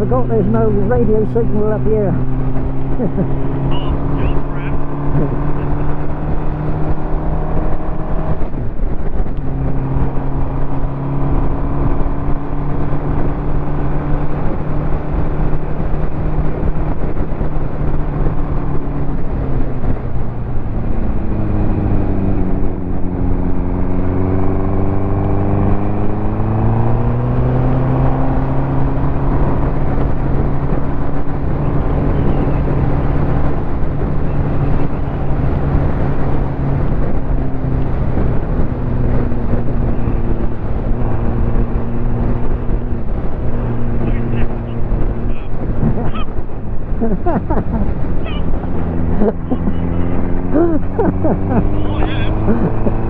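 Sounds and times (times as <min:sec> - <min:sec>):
motorcycle engine accelerating: 0:00.0 - 0:53.0
wind and road noise: 0:00.0 - 0:53.0.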